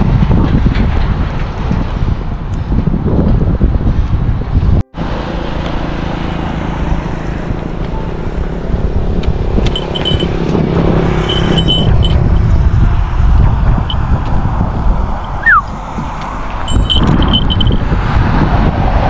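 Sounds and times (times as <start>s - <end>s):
vehicle engine humming: 3.4s - 19.0s.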